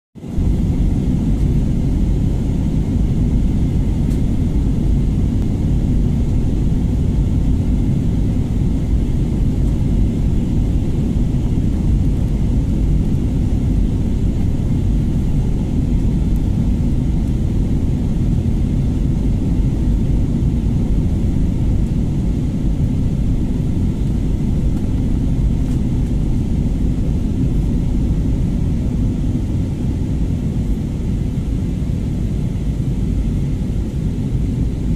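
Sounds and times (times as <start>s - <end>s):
jet engines rumbling in cabin: 0.2s - 34.9s.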